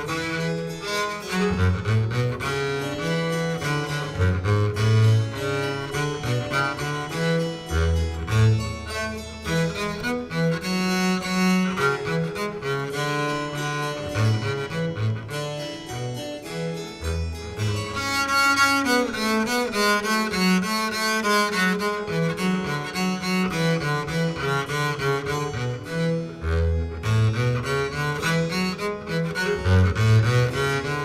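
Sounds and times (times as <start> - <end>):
bowed string music with cello: 0.0 - 31.0.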